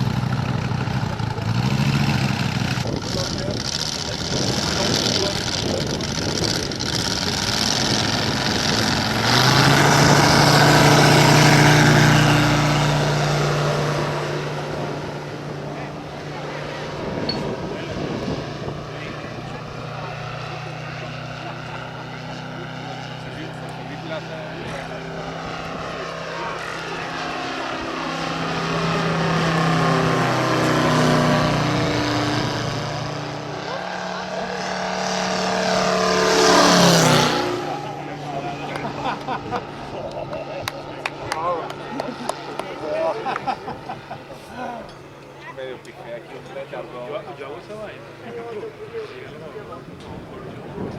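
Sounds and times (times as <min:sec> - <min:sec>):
model airplane radial engine running: 0:00.0 - 0:50.9.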